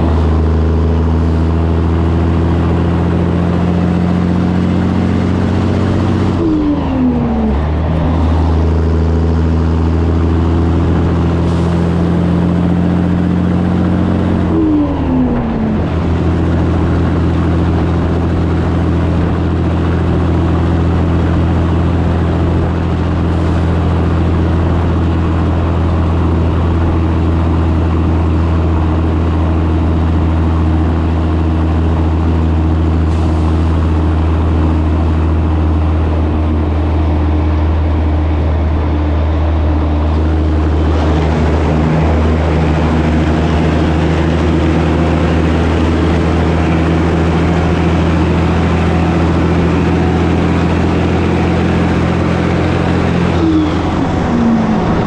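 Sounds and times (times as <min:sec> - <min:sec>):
truck diesel engine droning: 0:00.0 - 0:55.0
tyre and road noise: 0:00.0 - 0:55.0.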